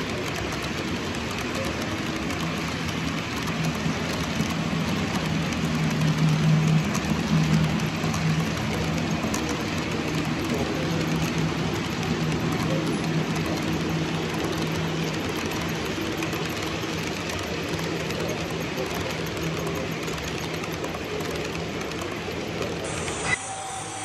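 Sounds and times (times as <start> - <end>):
model train wheels and motor: 0.0 - 24.0.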